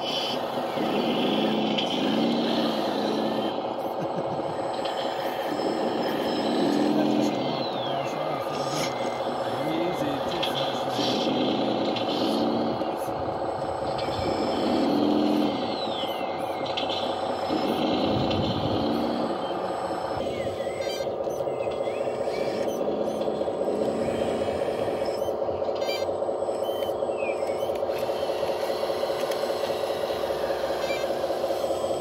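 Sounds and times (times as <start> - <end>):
hydraulic pump and motors whining: 0.0 - 32.0.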